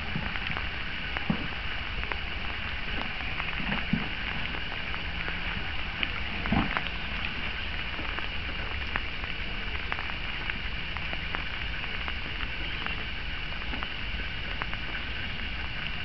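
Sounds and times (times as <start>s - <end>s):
faint crackling ticks: 0.0s - 16.0s
outdoor background hiss: 0.0s - 16.0s.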